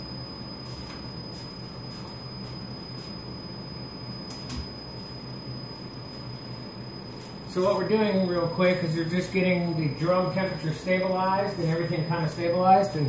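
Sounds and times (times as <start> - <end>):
coffee roaster humming: 0.0 - 13.0.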